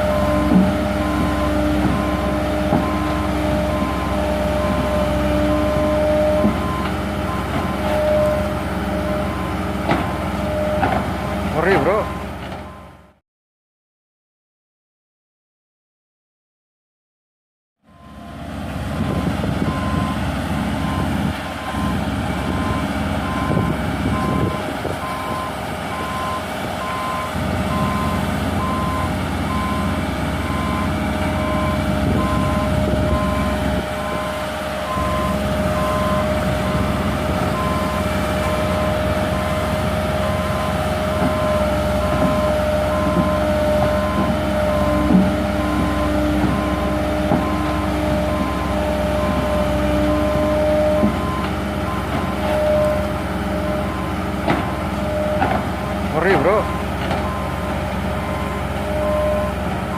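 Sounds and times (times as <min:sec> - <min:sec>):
reversing alarm beeping: 0:00.0 - 0:09.7, 0:10.4 - 0:13.1, 0:17.9 - 0:18.4, 0:19.1 - 0:59.9
diesel engine running: 0:00.0 - 0:13.2, 0:17.9 - 0:59.9.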